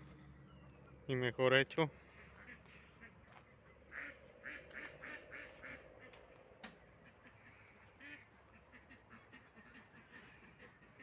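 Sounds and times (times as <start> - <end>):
ducks quacking: 2.0 - 11.0.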